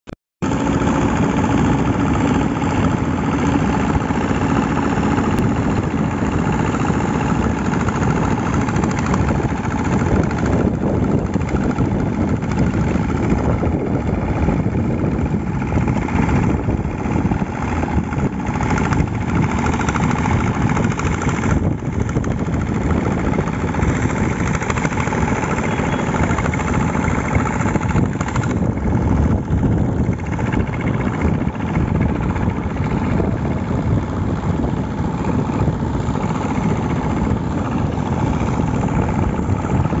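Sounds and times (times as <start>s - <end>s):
construction machinery engine running: 0.4s - 40.0s.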